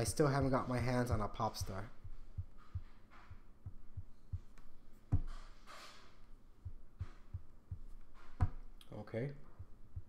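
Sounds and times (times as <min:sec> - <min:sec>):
soft low thuds: 0:00.0 - 0:10.0.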